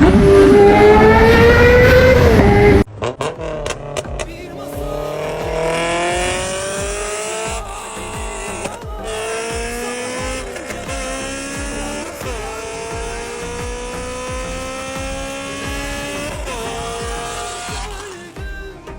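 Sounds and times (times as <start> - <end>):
car engine accelerating hard: 0.0 - 18.4.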